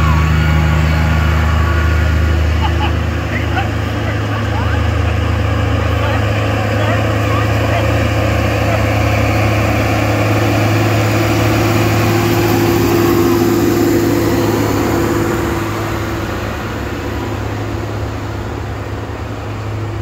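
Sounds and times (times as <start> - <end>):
tractor engine driving past: 0.0 - 20.0.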